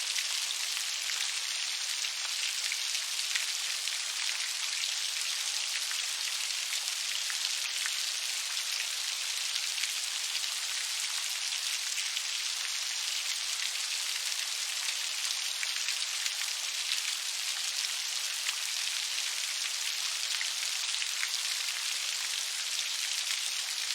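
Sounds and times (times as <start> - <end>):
steady rainfall: 0.0 - 23.9.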